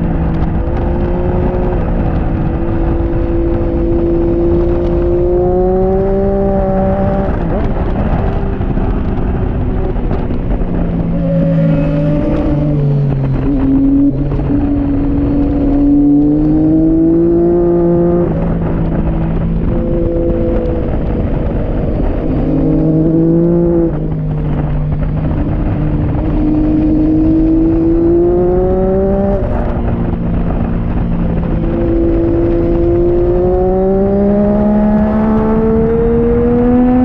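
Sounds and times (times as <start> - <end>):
motorcycle engine accelerating: 0.0 - 37.0
wind noise: 0.0 - 37.0.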